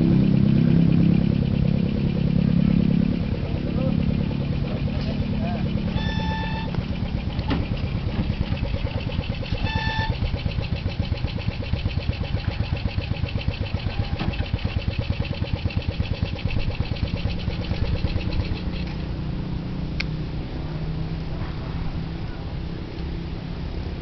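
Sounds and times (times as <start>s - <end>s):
hoist engine pulsing: 0.0s - 24.0s.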